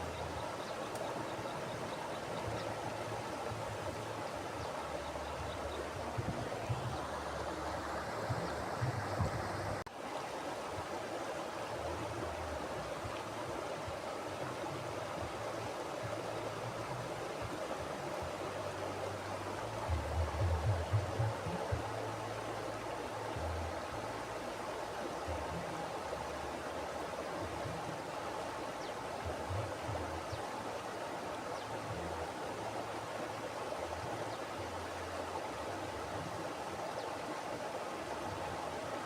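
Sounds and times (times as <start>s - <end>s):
river flowing over rocks: 0.0s - 39.0s.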